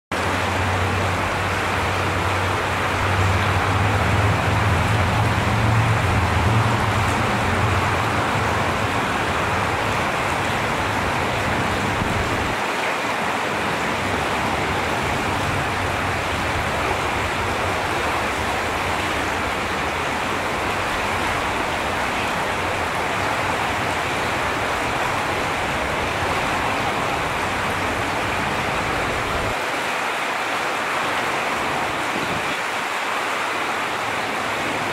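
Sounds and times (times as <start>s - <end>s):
creek running over rocks: 0.1s - 34.9s.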